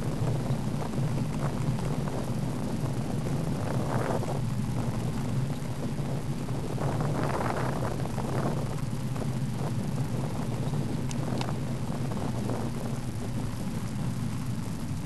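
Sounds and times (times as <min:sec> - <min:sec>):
bicycle rolling on tarmac: 0:00.0 - 0:15.0
wind noise on microphone: 0:00.0 - 0:15.0.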